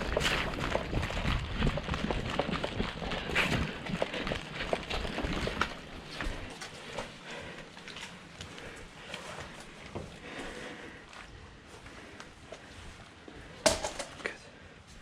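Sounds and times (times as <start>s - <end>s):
quick footsteps on hard ground: 0.0s - 14.0s.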